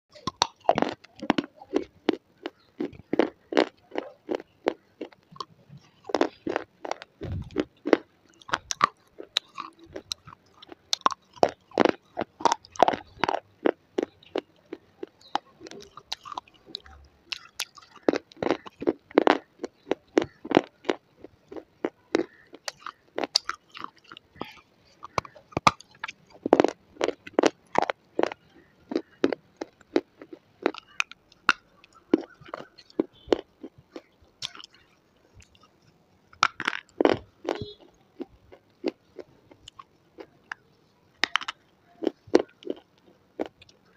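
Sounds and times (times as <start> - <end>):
slate pencils being chewed: 0.2 - 43.9.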